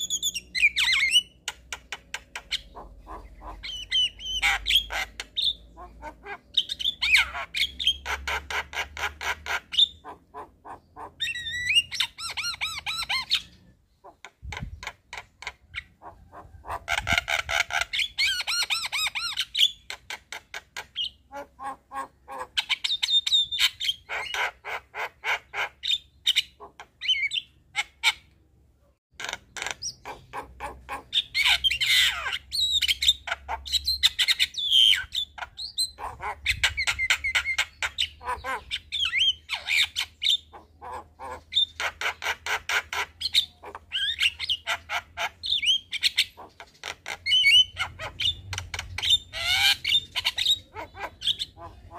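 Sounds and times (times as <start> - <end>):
myna bird singing: 0.0 - 51.9.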